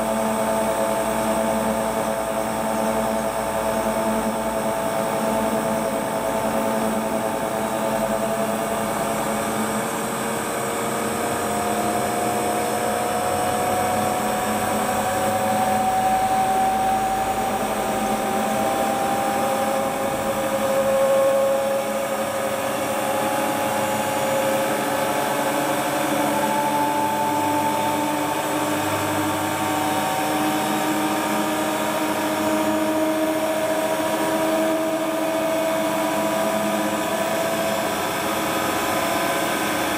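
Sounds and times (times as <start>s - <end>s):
washing machine motor whining: 0.0s - 39.9s.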